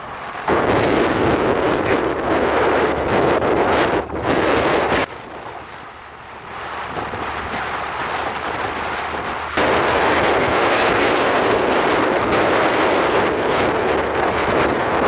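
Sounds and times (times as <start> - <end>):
road and traffic noise: 0.0 - 15.0
wind buffeting microphone: 0.0 - 15.0.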